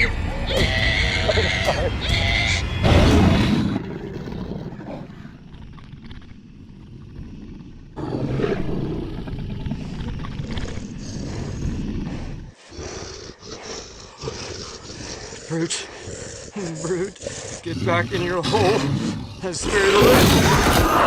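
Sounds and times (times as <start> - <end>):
deep monster growl: 0.0 - 21.0.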